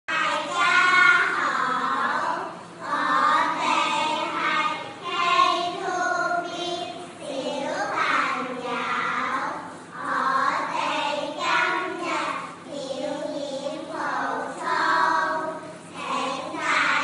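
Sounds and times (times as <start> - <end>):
children singing in unison: 0.1 - 17.0.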